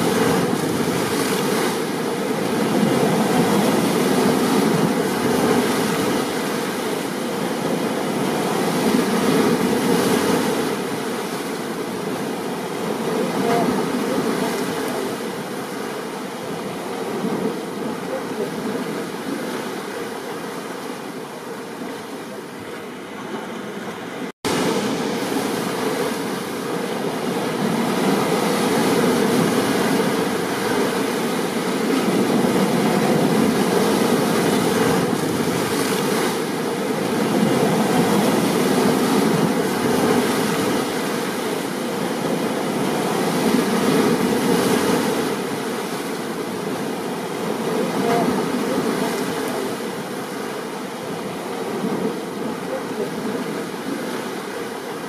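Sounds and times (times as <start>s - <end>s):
rain: 0.0s - 22.7s, 24.5s - 55.0s
stormy surf: 0.0s - 55.0s.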